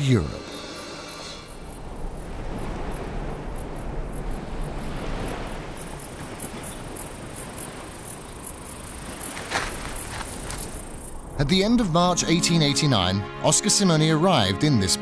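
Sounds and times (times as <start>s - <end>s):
insects chirping in pulses: 0.0s - 12.2s.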